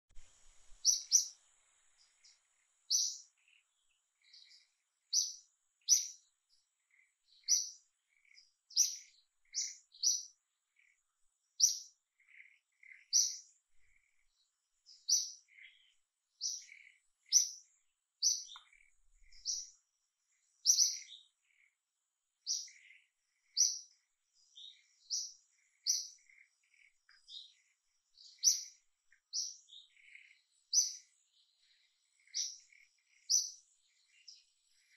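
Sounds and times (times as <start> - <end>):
bird chirping: 0.1 - 34.9.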